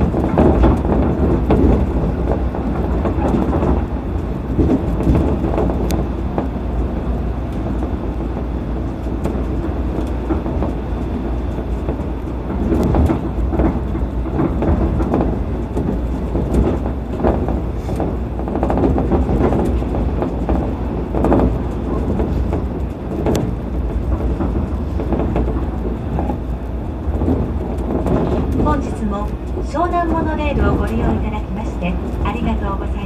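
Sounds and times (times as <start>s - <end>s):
knocks and rattles: 0.0s - 33.0s
train low rumble: 0.0s - 33.0s.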